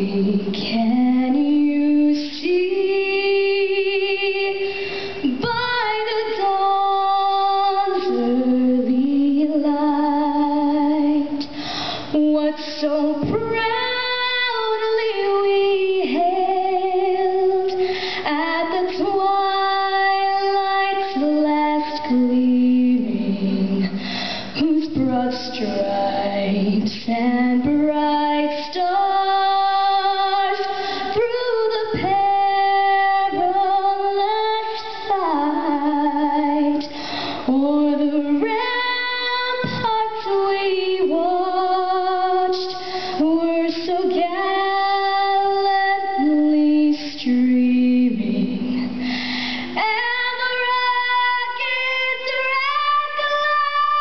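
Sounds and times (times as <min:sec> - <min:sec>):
woman singing into a microphone: 0:00.0 - 0:54.0.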